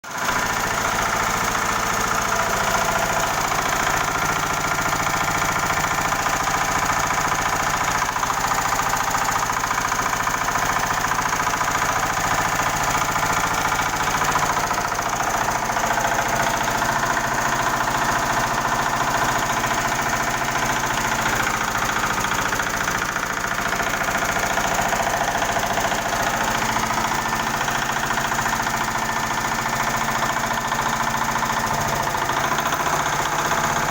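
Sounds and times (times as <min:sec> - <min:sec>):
hoist machine running: 0:00.1 - 0:33.9.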